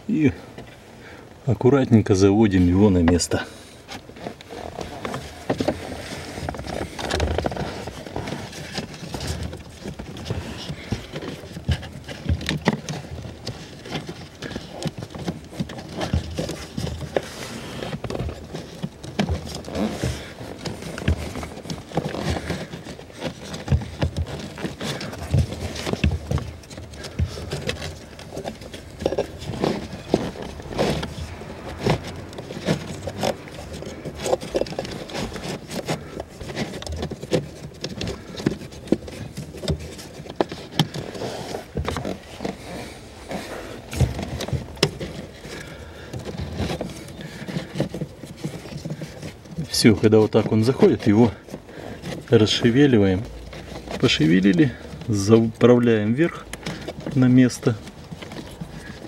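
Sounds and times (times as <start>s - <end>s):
filter knocking and scraping in housing: 2.8s - 59.0s.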